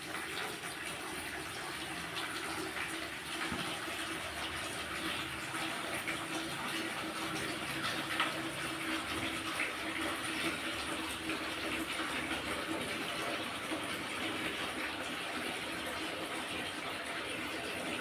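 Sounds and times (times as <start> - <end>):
tap water running into sink: 0.0 - 18.0.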